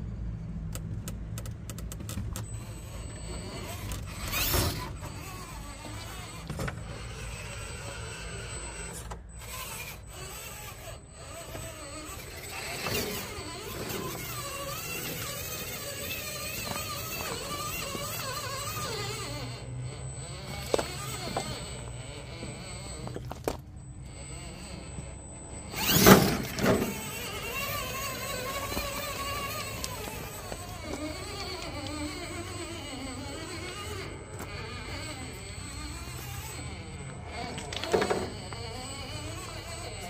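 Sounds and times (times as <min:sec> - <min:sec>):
small electric motor and gears whining: 0:00.0 - 0:40.0.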